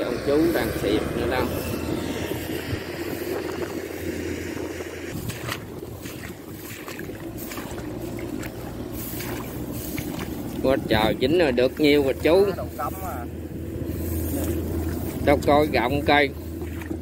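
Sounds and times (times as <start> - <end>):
harvester engine droning: 0.0 - 17.0.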